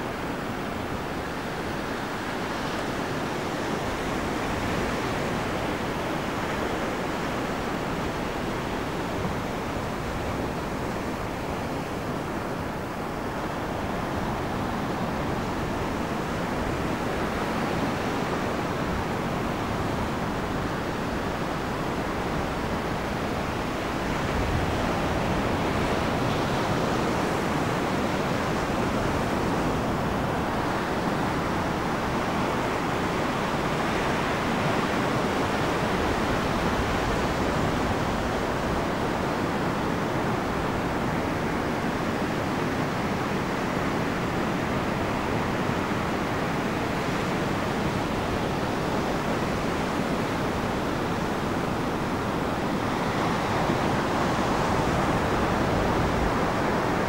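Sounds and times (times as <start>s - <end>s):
ocean surf: 0.0s - 57.0s
wind: 0.0s - 57.0s.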